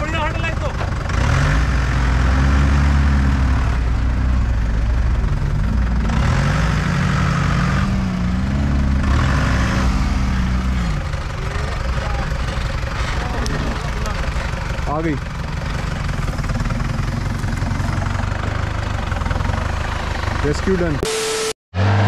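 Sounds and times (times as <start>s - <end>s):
jeep engine working under load: 0.0s - 22.0s.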